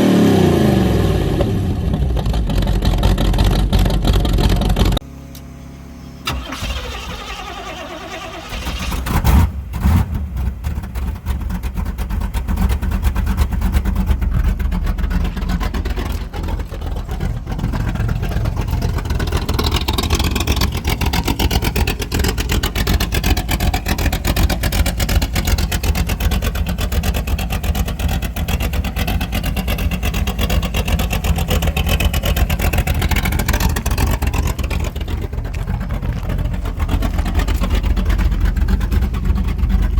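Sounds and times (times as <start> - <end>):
car engine cranking and starting: 0.0 - 39.9
engine running through exhaust: 0.0 - 39.9.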